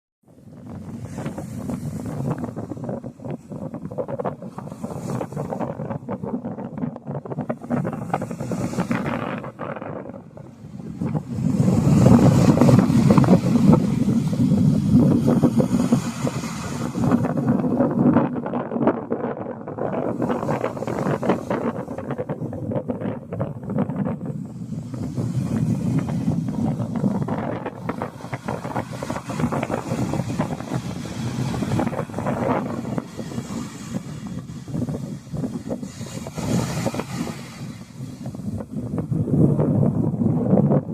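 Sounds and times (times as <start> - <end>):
wind buffeting microphone: 0.2 - 40.9.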